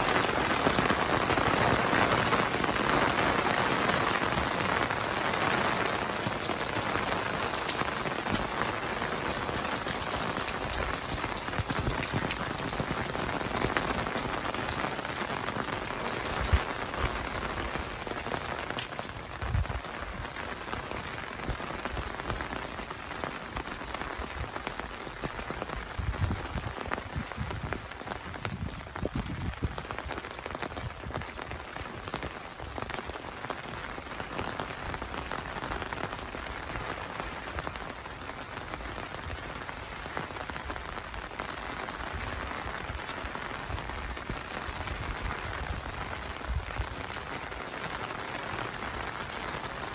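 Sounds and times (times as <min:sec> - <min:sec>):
heavy rain pattering: 0:00.0 - 0:49.9.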